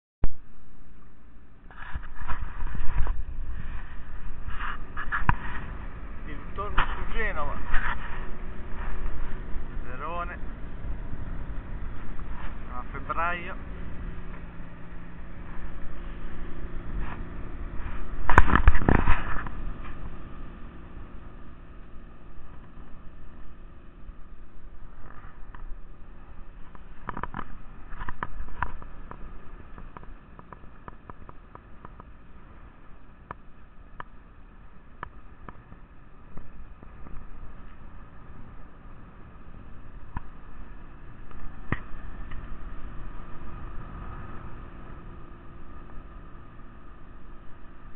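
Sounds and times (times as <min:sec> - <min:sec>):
loud rush of noise: 0:00.2 - 0:47.9
low hum: 0:00.2 - 0:47.9
wind and water noise: 0:00.2 - 0:47.9.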